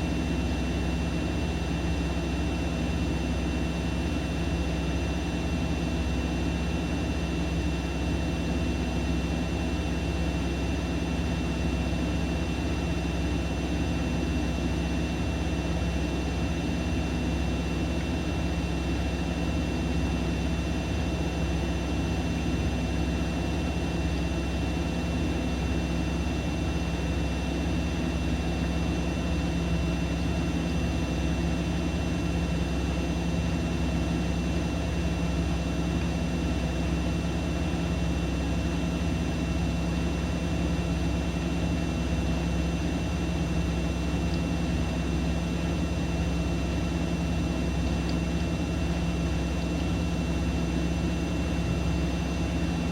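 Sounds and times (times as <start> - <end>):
washing machine motor hum: 0.0 - 52.9.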